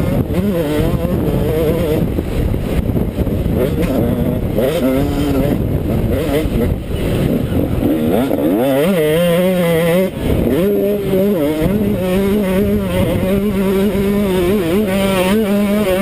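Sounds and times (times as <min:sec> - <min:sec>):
motocross engine revving hard: 0:00.0 - 0:16.0
wind noise: 0:00.0 - 0:16.0.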